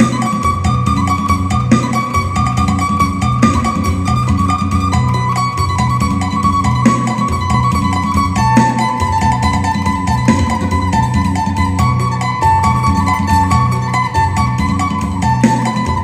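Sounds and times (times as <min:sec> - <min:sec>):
low repeating accompaniment: 0:00.0 - 0:16.0
plucked lute melody: 0:00.0 - 0:16.0.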